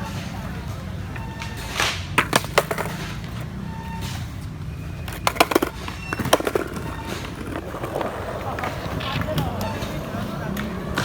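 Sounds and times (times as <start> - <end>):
skateboards clacking on concrete: 0.0 - 11.0.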